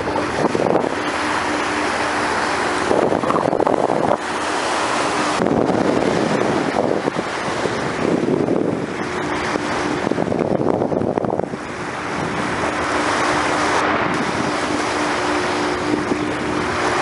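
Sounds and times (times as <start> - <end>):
sea water splashing along a bow: 0.0 - 17.0
wind buffeting microphone: 0.0 - 17.0.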